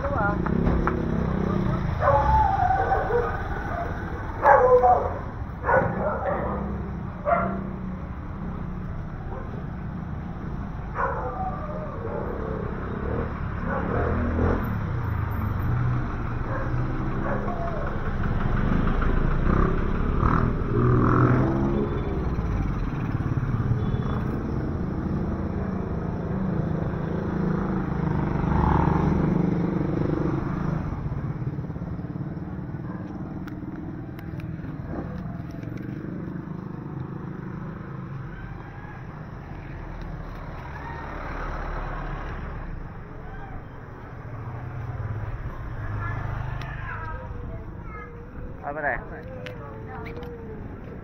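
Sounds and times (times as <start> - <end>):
motorcycle engines passing: 0.0 - 51.0
traffic hum: 0.0 - 51.0.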